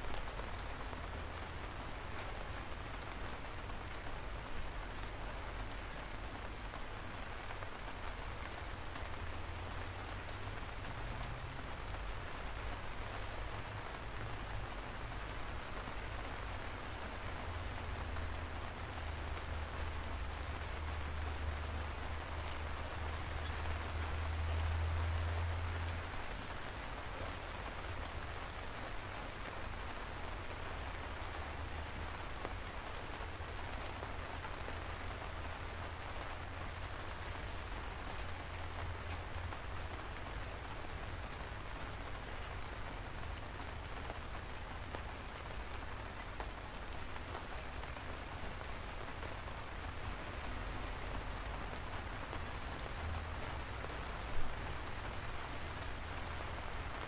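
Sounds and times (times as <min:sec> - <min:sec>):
sharp raindrop ticks: 0:00.0 - 0:57.0
steady rain falling: 0:00.0 - 0:57.0.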